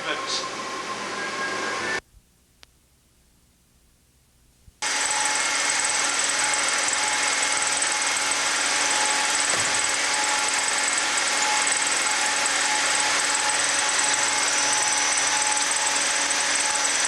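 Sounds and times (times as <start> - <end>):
steady mechanical noise: 0.0 - 2.0, 4.8 - 17.0.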